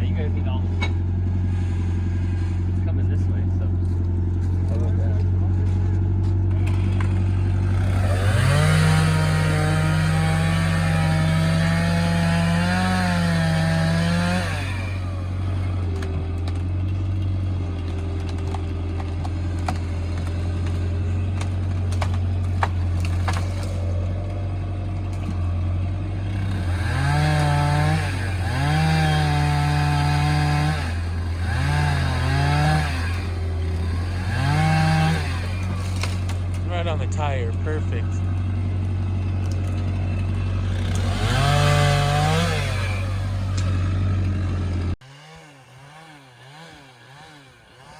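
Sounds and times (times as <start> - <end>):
chainsaw cutting tree: 0.0 - 47.9
wood cracking: 3.7 - 45.0.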